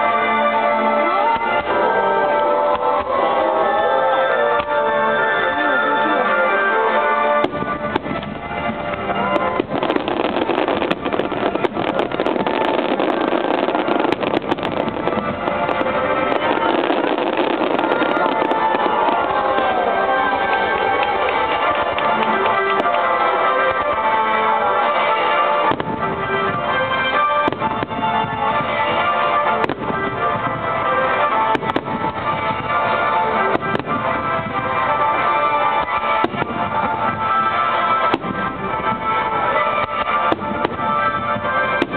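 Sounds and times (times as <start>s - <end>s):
fireworks bursting: 6.3s - 41.9s.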